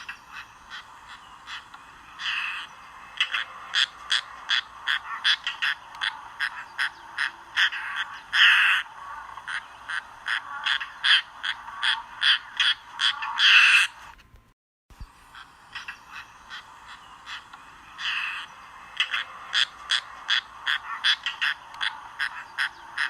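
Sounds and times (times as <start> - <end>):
bird harsh croaking calls: 0.0 - 14.0, 15.2 - 23.0.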